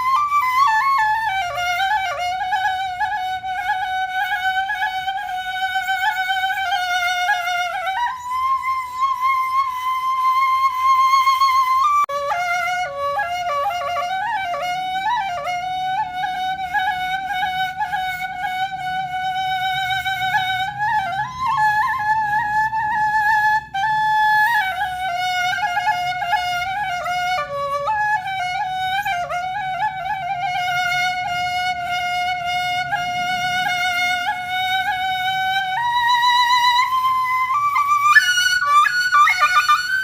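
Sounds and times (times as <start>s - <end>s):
flute-like melody: 0.0s - 40.0s.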